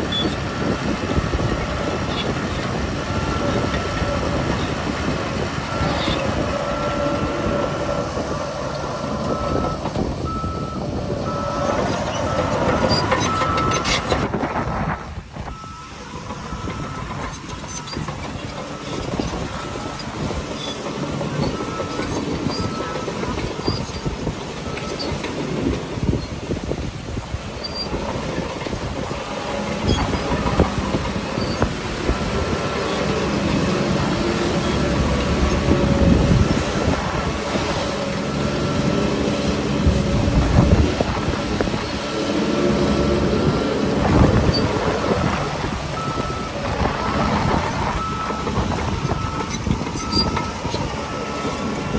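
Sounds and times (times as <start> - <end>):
bulldozer diesel engine running: 0.0 - 51.9
steel tracks clanking: 0.0 - 51.9.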